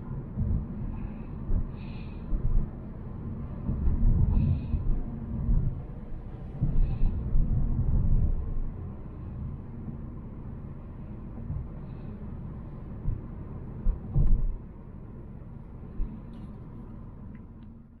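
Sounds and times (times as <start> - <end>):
low rumble inside a car: 0.0 - 18.0.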